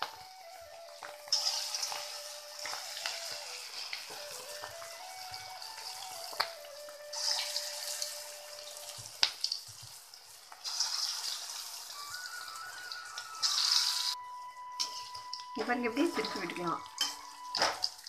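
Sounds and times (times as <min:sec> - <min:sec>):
fritters deep-frying in oil: 0:00.0 - 0:18.0.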